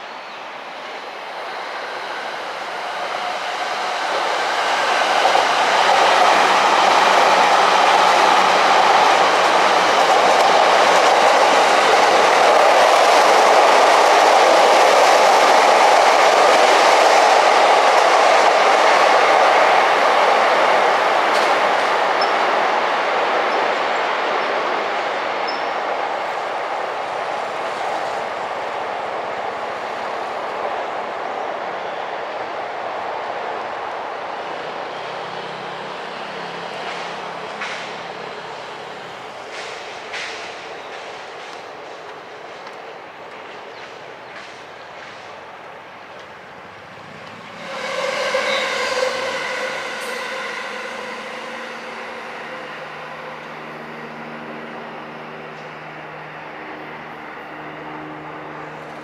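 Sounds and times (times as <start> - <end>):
electric train running past: 0.0 - 59.0.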